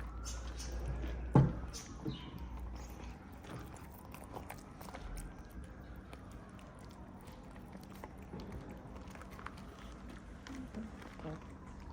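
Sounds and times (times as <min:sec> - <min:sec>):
cats chewing and lapping: 0:00.0 - 0:11.9.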